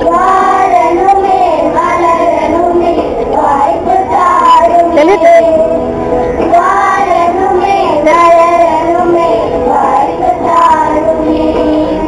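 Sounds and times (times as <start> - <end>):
children singing: 0.0 - 12.0
musical accompaniment: 0.0 - 12.0.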